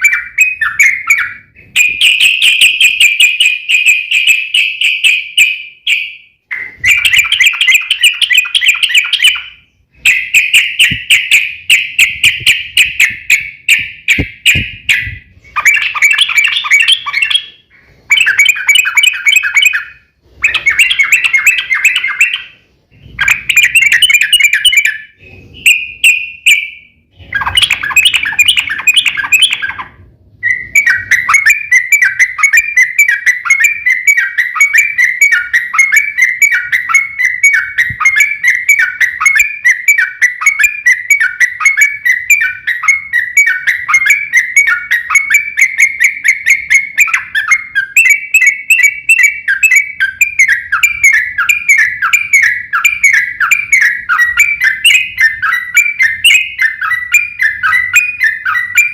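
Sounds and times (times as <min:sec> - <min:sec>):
bulbul trilling song: 0:00.0 - 0:58.9.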